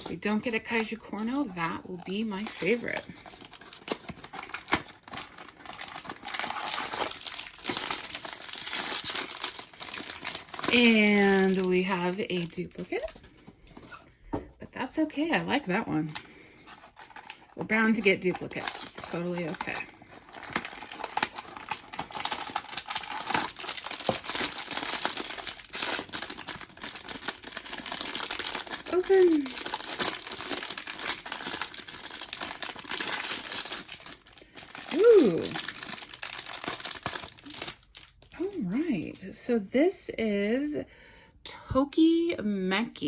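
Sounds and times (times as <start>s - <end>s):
wrapping crinkling: 0.0s - 14.0s, 15.2s - 39.1s.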